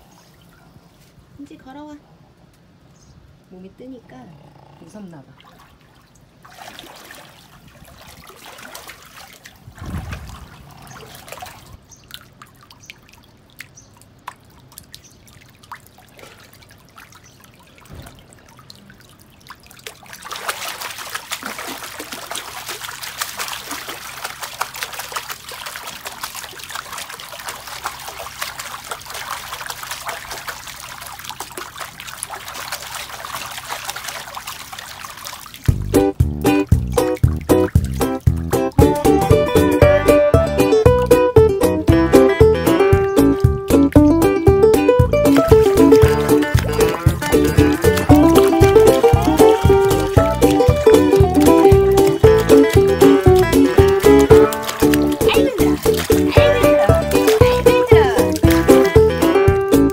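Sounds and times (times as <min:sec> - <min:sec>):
water splashing in a pool: 0:05.1 - 0:59.9.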